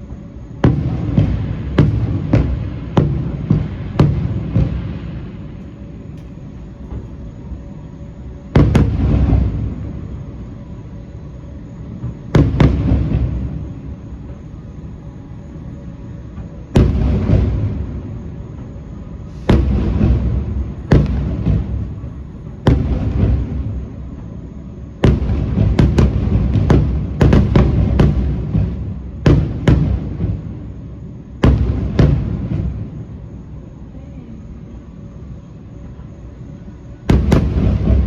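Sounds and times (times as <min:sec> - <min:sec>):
fireworks booming: 0:00.0 - 0:38.0
rolling rumble: 0:00.0 - 0:38.0.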